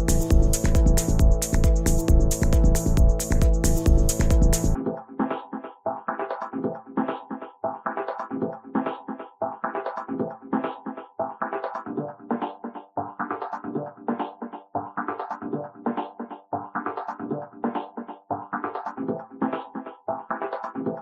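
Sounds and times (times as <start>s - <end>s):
electronic synthesizer music: 0.0s - 21.0s.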